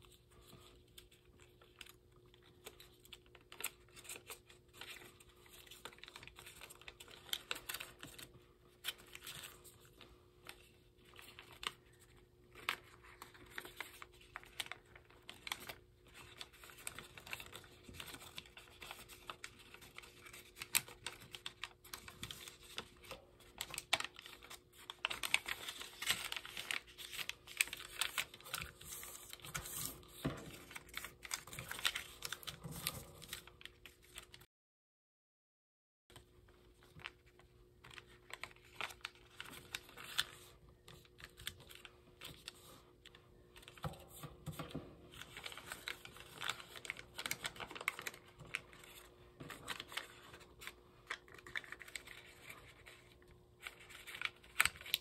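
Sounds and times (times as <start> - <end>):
paper crinkling and rustling: 0.0 - 34.5, 36.1 - 55.0.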